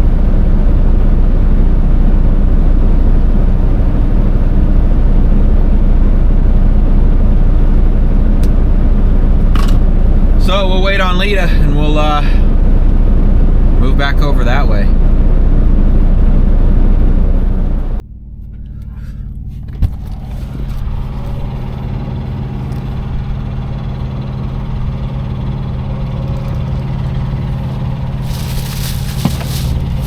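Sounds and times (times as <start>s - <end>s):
loud low rumble: 0.0s - 30.0s
truck diesel engine idling: 0.0s - 30.0s.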